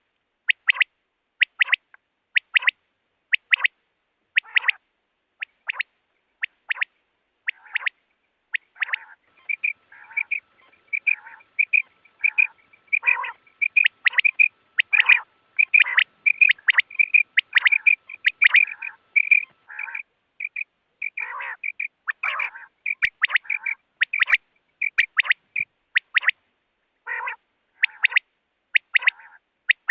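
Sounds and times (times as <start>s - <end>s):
quail calling: 0.5s - 1.8s, 2.4s - 3.7s, 4.4s - 4.8s, 5.4s - 26.4s, 27.0s - 29.9s.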